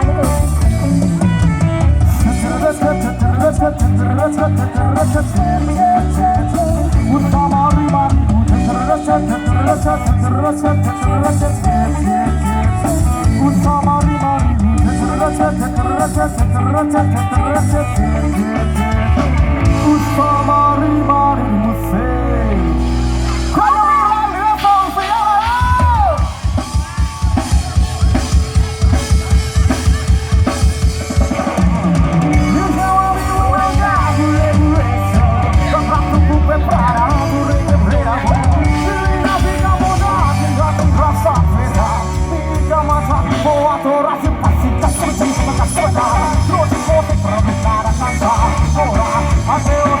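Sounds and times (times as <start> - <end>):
drum kit beat: 0.0 - 21.3, 22.8 - 50.0
band music: 0.0 - 50.0
person singing: 0.0 - 50.0.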